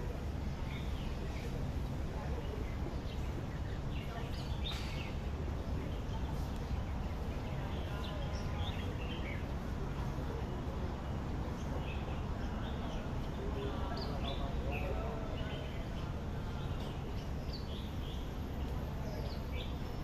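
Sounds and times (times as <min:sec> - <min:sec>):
faint voices: 0:00.0 - 0:20.0
small birds chirping: 0:00.2 - 0:20.0.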